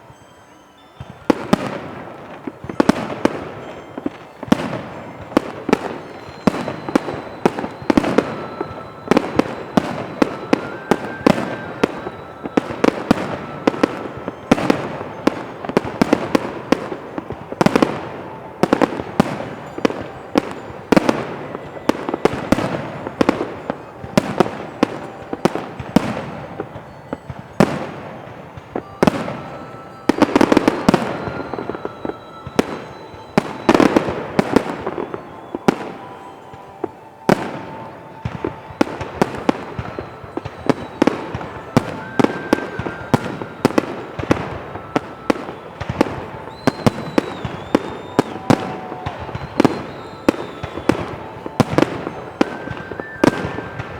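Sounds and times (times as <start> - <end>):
firework bursts and bangs: 0.0 - 53.9.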